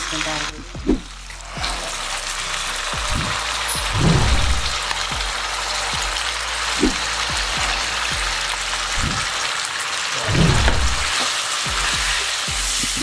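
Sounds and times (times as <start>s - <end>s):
ghee sizzling in a pan: 0.0s - 13.0s.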